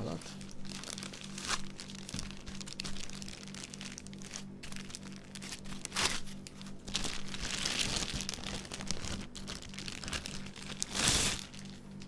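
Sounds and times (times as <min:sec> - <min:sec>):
foam packing rustling: 0:00.0 - 0:12.0
plastic bag crinkling: 0:00.0 - 0:12.0.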